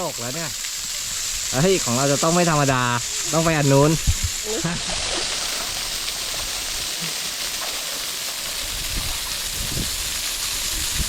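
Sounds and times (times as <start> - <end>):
water splashing over rock: 0.0 - 11.0
waterfall rushing: 0.0 - 11.0.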